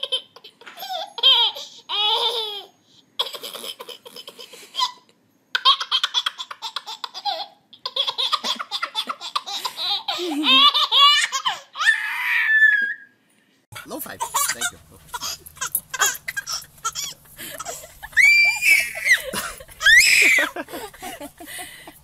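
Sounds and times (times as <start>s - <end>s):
baby laughing: 0.0s - 12.1s, 13.8s - 22.0s.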